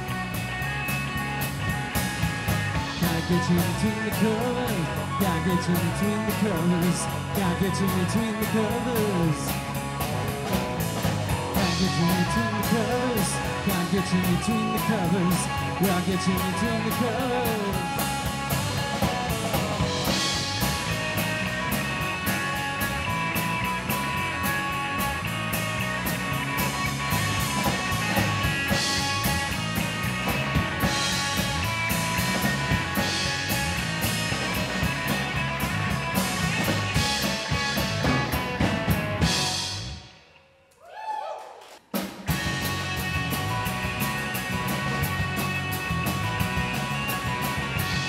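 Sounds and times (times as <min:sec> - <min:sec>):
live rock band playing: 0:00.0 - 0:40.4, 0:41.9 - 0:48.0.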